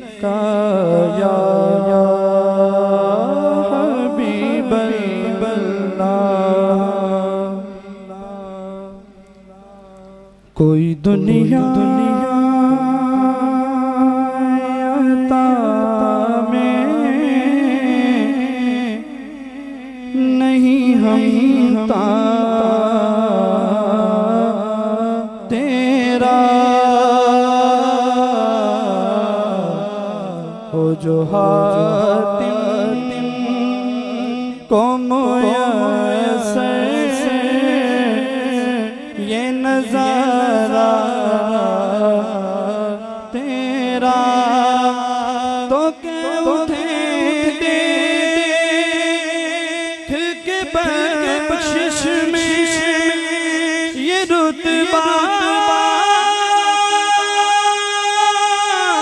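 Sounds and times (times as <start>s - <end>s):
man singing into microphone: 0.0s - 59.0s.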